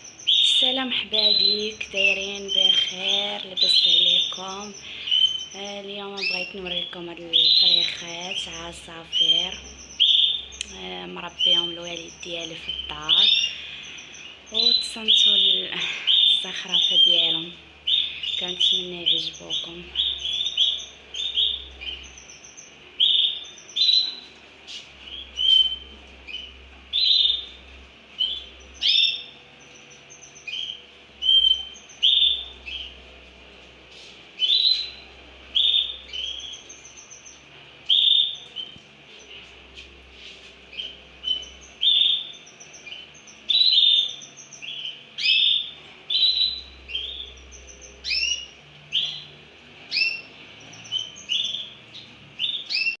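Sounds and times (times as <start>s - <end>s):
canaries chirping and trilling: 0.0s - 53.0s.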